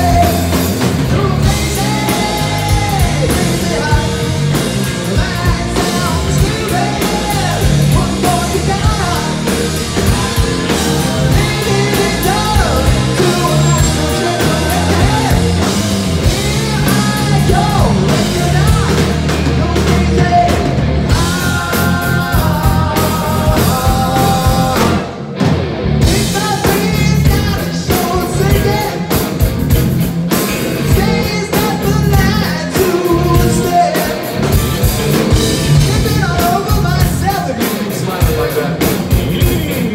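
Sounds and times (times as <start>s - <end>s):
person singing: 0.0s - 25.3s, 26.0s - 29.3s, 30.8s - 34.6s
bass guitar: 0.0s - 39.9s
drum kit: 0.0s - 39.9s
electric guitar: 0.0s - 39.9s.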